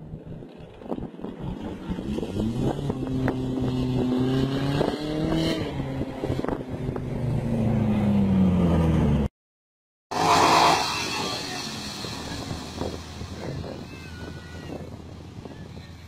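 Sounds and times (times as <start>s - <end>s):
car engines accelerating: 0.5s - 9.3s, 10.1s - 16.0s.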